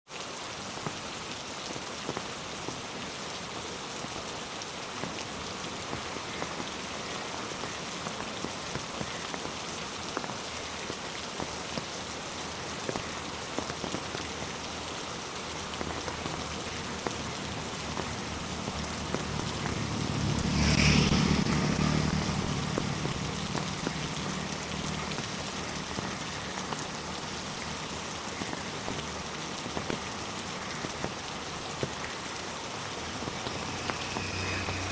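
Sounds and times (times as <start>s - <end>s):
rain falling on road and trees: 0.1s - 34.9s.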